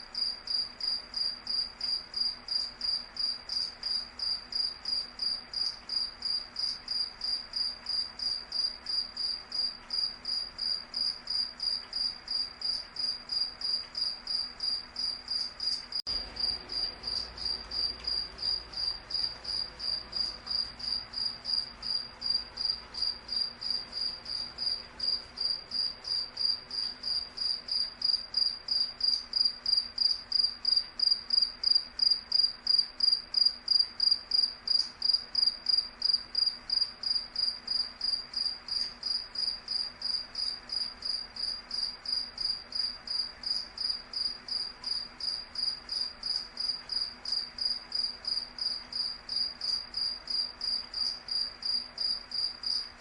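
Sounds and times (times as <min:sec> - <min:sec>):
cricket chirping: 0:00.1 - 0:53.0.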